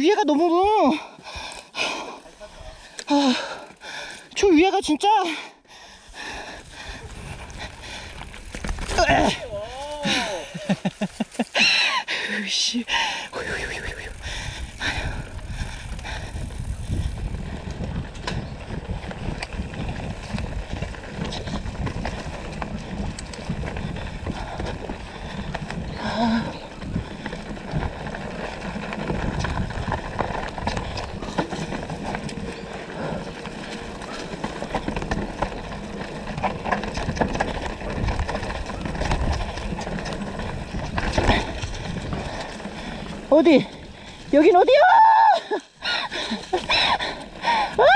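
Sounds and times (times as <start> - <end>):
mountain bike rattling: 0.0 - 47.9.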